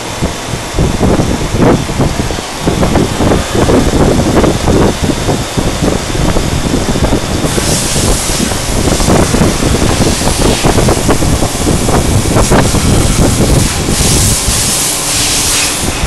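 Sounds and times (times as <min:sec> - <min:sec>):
cnc router spindle cutting plastic: 0:00.0 - 0:16.0.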